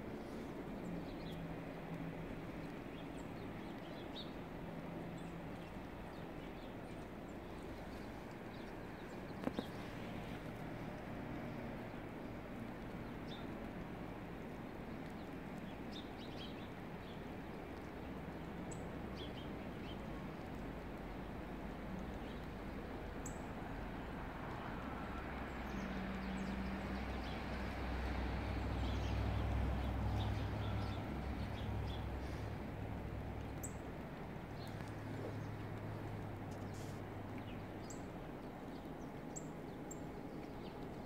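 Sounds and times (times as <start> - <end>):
small birds chirping: 0.2 - 23.6, 25.5 - 41.0.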